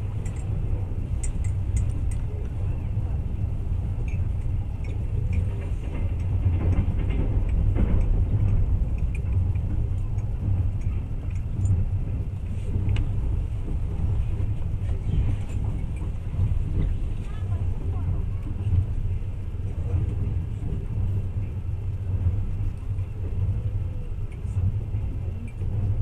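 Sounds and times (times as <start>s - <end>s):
faint clicks and rattles: 0.0s - 3.0s, 3.7s - 26.0s
train rumble inside carriage: 0.0s - 26.0s.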